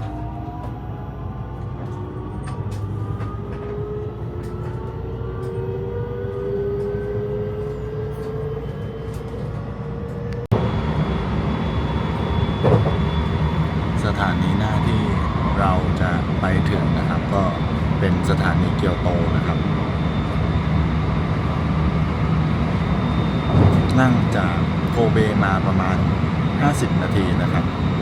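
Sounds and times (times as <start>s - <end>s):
train carriage rumble: 0.0s - 28.0s
train traction motors whining: 0.0s - 28.0s.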